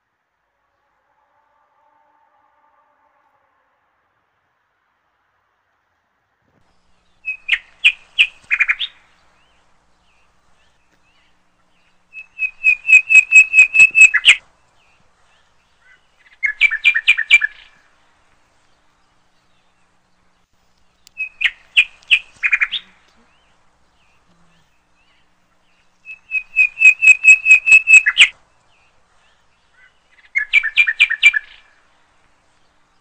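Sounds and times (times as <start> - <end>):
songbird chirping: 5.7 - 33.0.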